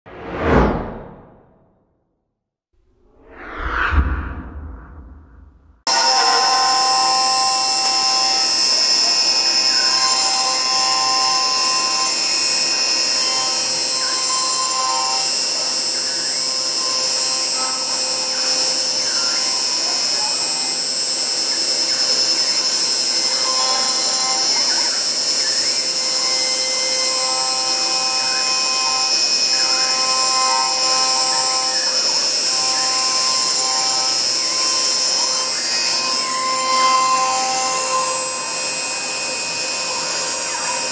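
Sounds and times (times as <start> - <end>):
router spindle high-pitched whine: 5.9 - 40.9.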